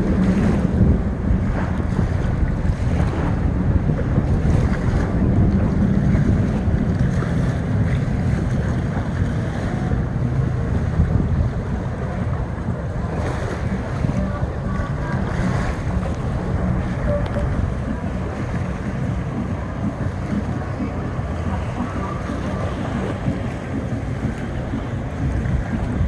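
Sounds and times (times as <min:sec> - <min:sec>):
boat motor: 0:00.0 - 0:26.0
waves washing: 0:00.0 - 0:26.0
wind rumbling on microphone: 0:00.0 - 0:26.0.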